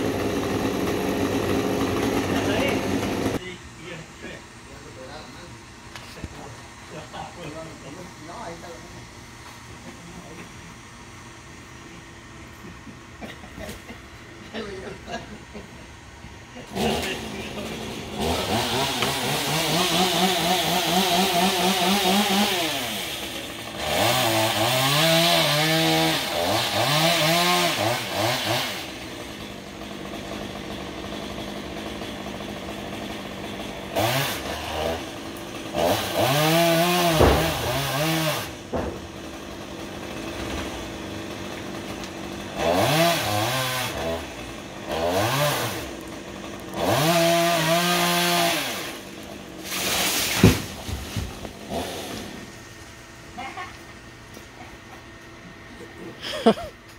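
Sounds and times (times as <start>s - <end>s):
chainsaw revving and idling: 0.0s - 5.6s, 6.2s - 56.9s.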